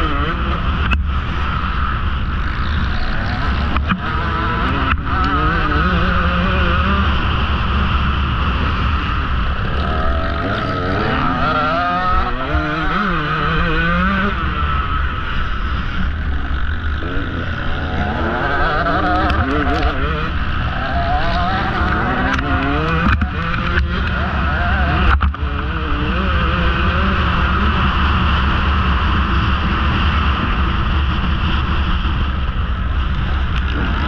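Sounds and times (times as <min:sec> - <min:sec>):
dirt bike engine revving: 0:00.0 - 0:30.8
wind noise: 0:00.0 - 0:34.0.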